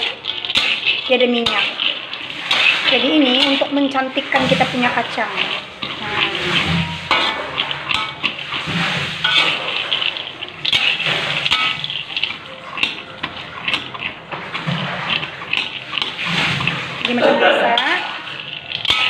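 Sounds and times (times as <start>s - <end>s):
metal spatula stirring: 0.0s - 19.0s
nuts rattling in metal pan: 0.0s - 19.0s.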